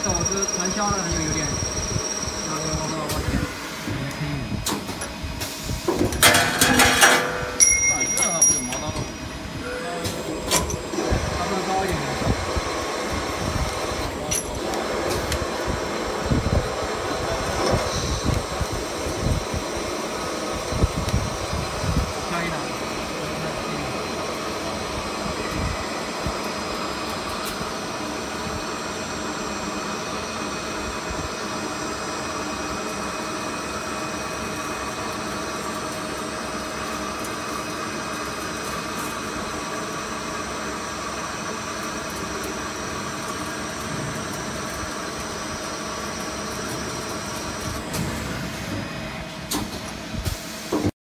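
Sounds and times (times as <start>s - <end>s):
lathe machining metal: 0.0s - 4.2s, 6.4s - 49.5s
high machine whine: 0.0s - 50.9s.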